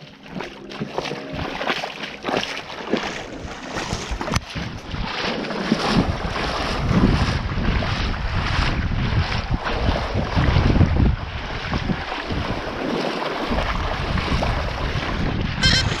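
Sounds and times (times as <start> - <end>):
water sloshing and splashing: 0.0 - 16.0
wind buffeting microphone: 3.1 - 16.0.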